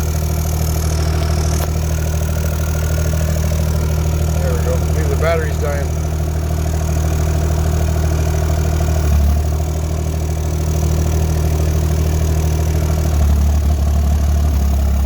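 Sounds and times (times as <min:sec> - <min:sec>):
mini excavator engine running: 0:00.0 - 0:15.0.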